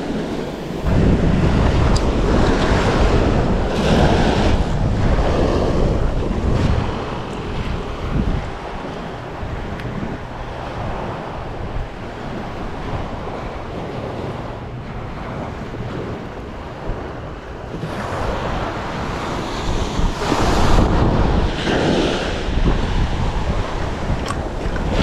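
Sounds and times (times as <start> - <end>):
ocean surf washing ashore: 0.0 - 25.0
wind buffeting microphone: 0.0 - 25.0.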